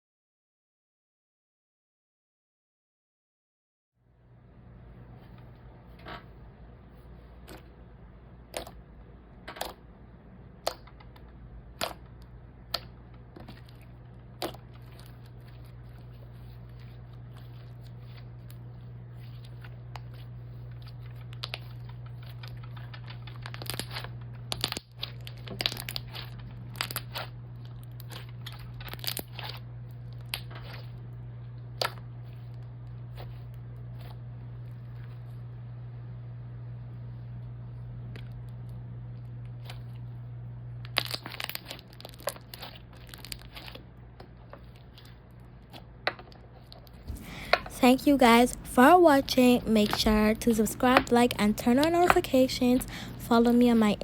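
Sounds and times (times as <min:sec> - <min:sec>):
steady low hum: 0:04.1 - 0:54.0.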